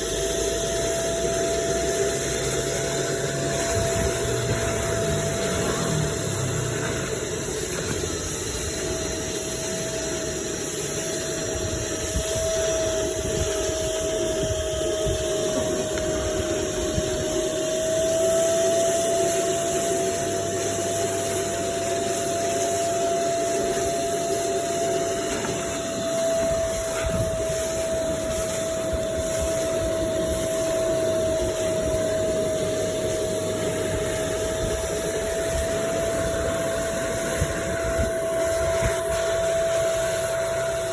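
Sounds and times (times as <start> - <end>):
wet vacuum motor whine: 0.0 - 40.9.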